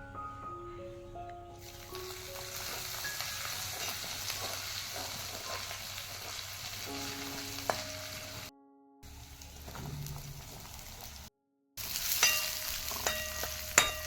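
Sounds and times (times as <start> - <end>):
soft background music: 0.0 - 11.3
food sizzling in hot oil: 1.6 - 14.0.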